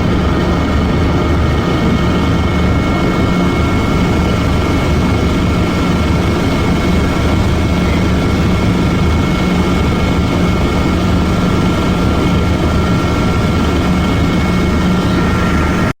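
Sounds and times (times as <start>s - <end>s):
helicopter cabin drone: 0.0s - 16.0s.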